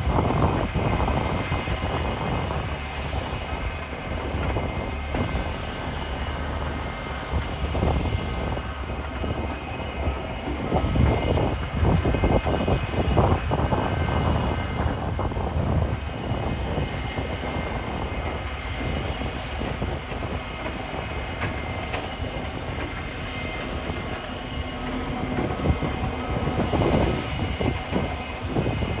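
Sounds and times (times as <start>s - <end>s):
heavy diesel engines running: 0.0s - 29.0s
machinery rattling and clanking: 0.1s - 29.0s.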